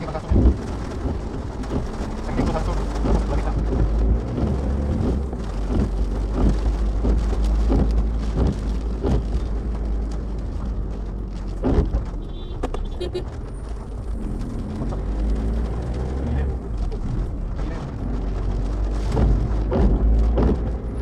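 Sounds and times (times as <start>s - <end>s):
car tyres rumbling on wet road: 0.0s - 21.0s
rain hissing on windscreen: 0.0s - 21.0s.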